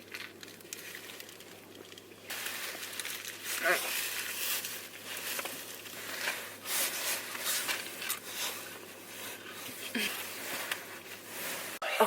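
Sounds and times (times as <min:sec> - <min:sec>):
rustling and handling noises: 0:00.0 - 0:11.8
low steady hum: 0:00.0 - 0:12.0.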